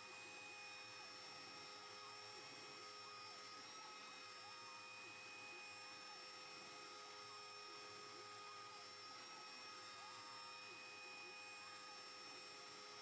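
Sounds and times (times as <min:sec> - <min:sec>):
cnc mill spindle whine: 0:00.0 - 0:13.0.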